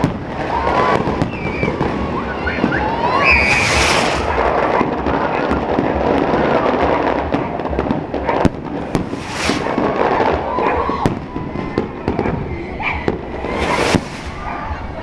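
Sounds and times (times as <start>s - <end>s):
fireworks crackling and banging: 0.0s - 15.0s
fireworks hissing bursts: 0.0s - 15.0s.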